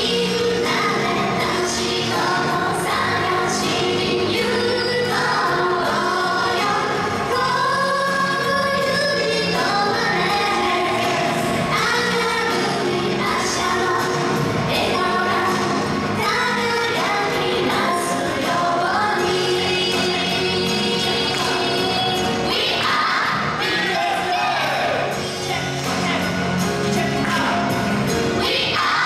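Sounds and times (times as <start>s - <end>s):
women singing together: 0.0s - 25.8s, 28.4s - 29.0s
pop music: 0.0s - 29.0s.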